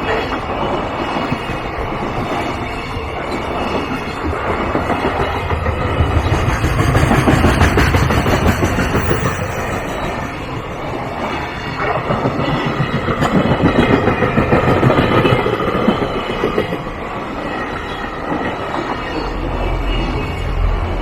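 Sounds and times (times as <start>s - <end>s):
freight train rumble: 0.0s - 21.0s
train wheels clacking over rail joints: 0.1s - 18.9s.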